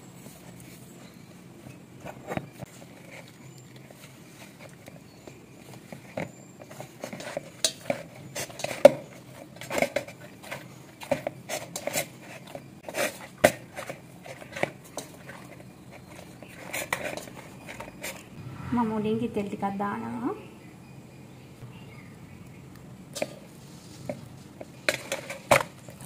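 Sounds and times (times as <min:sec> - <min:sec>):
hands kneading dough in metal bowl: 0:00.0 - 0:18.4, 0:23.1 - 0:26.0.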